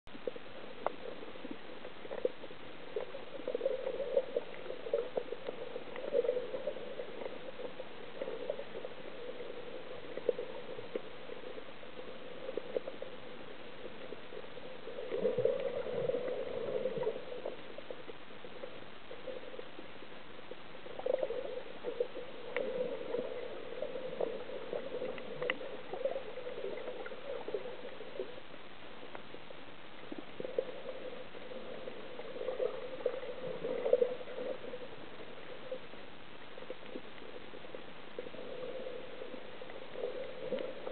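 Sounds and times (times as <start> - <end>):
steady hiss: 0.1 - 40.9
water bubbling and gurgling: 0.1 - 40.9.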